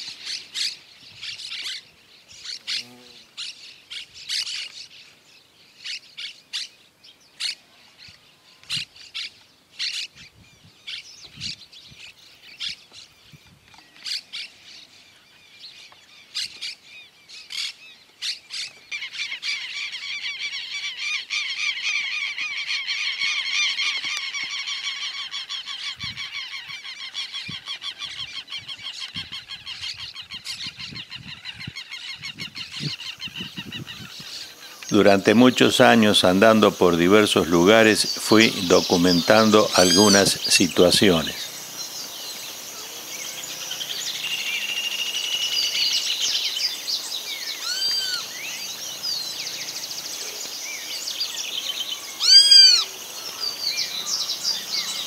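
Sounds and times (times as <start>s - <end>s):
birds calling: 0.0s - 55.0s
chatter of many birds: 0.0s - 55.0s.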